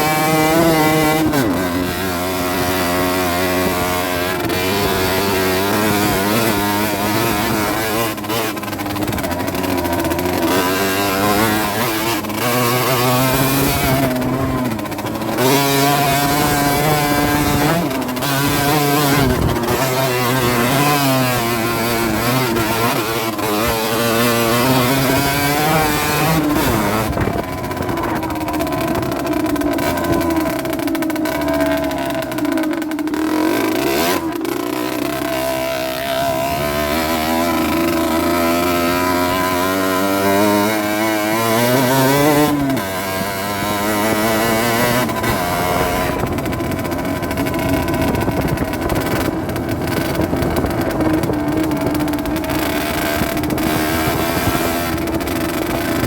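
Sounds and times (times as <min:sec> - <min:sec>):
two-stroke moped engine: 0:00.0 - 0:56.0.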